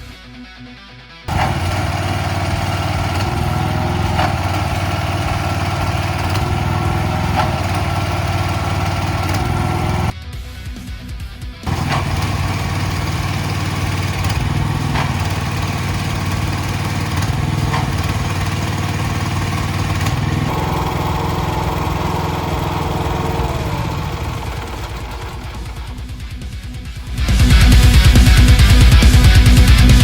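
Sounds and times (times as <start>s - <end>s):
pressure washer engine running: 1.3s - 10.2s, 11.7s - 30.0s.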